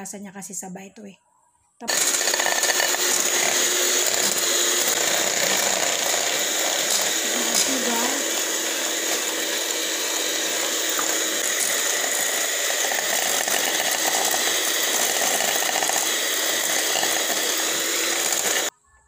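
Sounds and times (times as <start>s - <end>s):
electric hand mixer humming: 1.8s - 18.7s.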